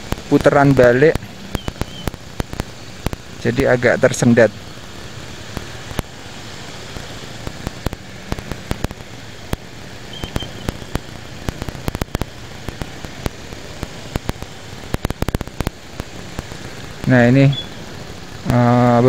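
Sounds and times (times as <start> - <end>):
sharp crackles: 0.0 - 19.0
traffic engine and road noise: 0.0 - 19.0.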